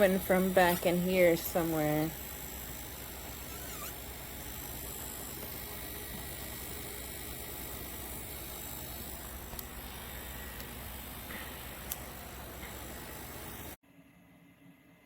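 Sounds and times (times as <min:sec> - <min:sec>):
humidifier hum and buzz: 0:00.0 - 0:15.0.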